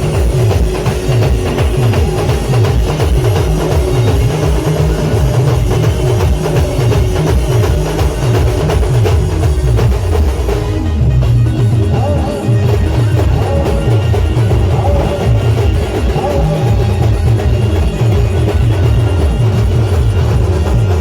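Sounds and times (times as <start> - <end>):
fast heavy drumming: 0.0 - 21.0
loud band music: 0.0 - 21.0
repeating bass line: 0.0 - 21.0.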